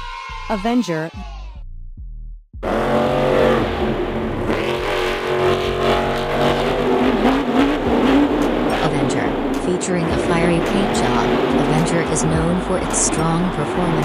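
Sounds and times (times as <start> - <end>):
monster truck engine revving: 2.6 - 14.0.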